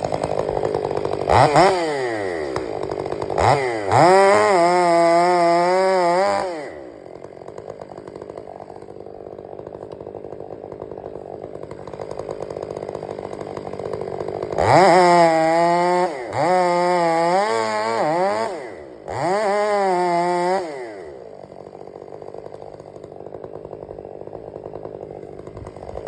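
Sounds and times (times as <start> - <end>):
chainsaw revving and idling: 0.0 - 26.0.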